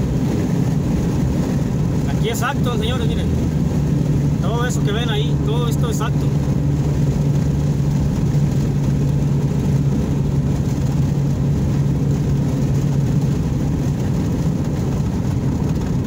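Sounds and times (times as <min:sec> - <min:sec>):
car cabin road rumble: 0:00.0 - 0:16.0
car engine hum: 0:00.0 - 0:16.0.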